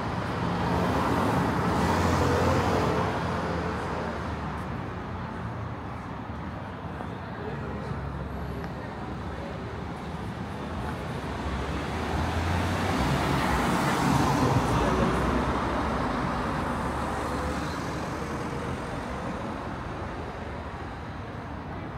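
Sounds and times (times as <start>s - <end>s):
road noise: 0.0s - 21.9s.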